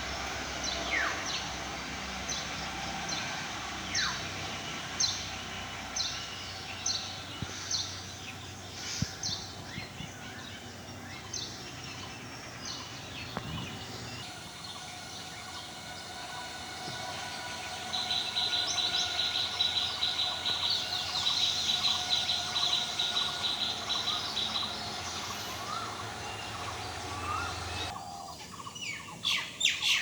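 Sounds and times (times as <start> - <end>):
steady background noise: 0.0 - 29.2.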